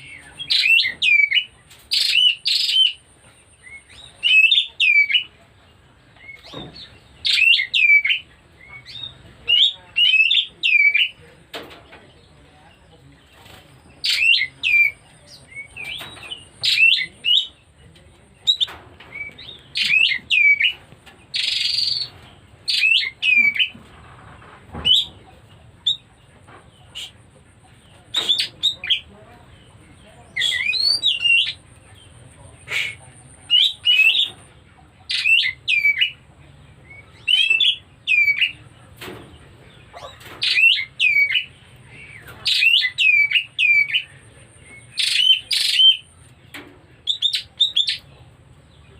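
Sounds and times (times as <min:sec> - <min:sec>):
bird chirping: 0:00.0 - 0:23.8, 0:24.7 - 0:48.9.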